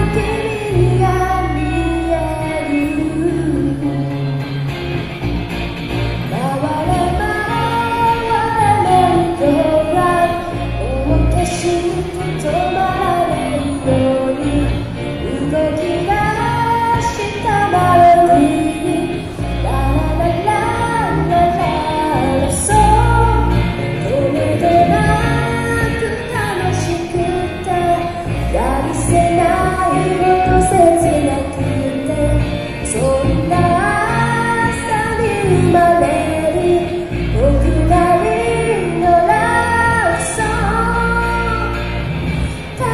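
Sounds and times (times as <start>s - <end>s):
person singing: 0.0s - 4.4s, 6.3s - 42.9s
band playing pop song live: 0.0s - 42.9s
guitar: 0.0s - 42.9s.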